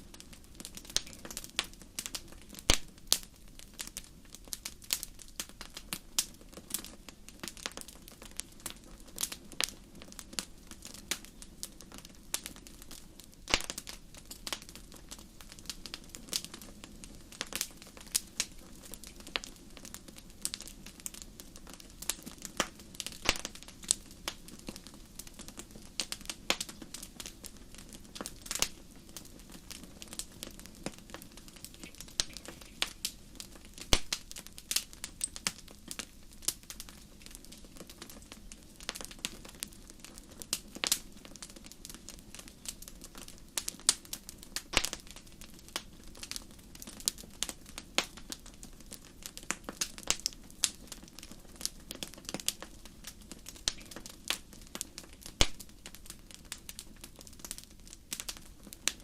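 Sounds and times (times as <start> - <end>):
fire crackling: 0.0 - 59.0
low fire rumble: 0.0 - 59.0.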